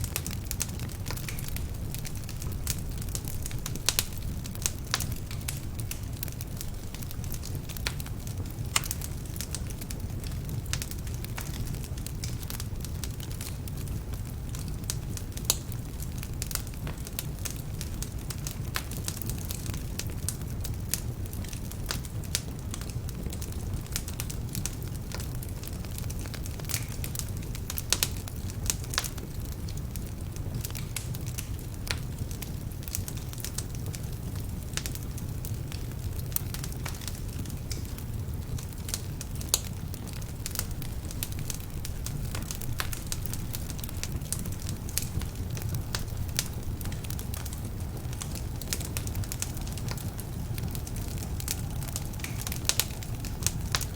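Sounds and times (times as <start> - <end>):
fire crackling and popping: 0.0 - 53.9
fire flames rumbling: 0.0 - 53.9.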